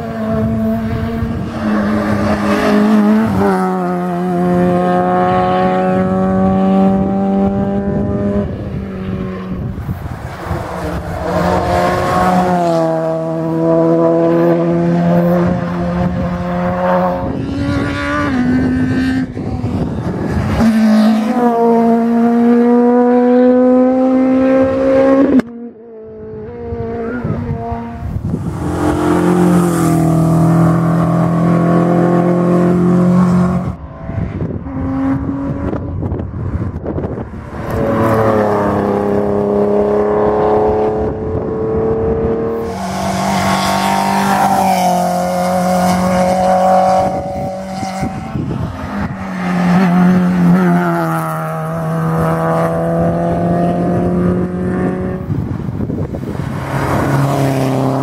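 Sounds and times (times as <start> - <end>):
rally car engines at high revs: 0.0 - 58.0.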